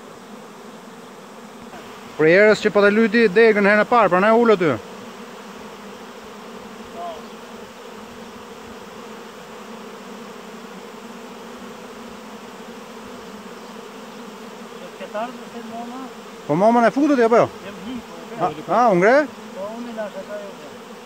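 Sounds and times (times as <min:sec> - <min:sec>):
bee swarm buzzing: 0:00.0 - 0:21.0.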